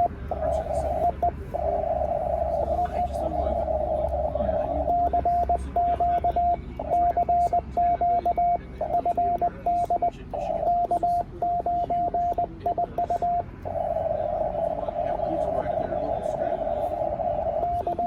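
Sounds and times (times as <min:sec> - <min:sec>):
morse code tone: 0:00.0 - 0:18.0.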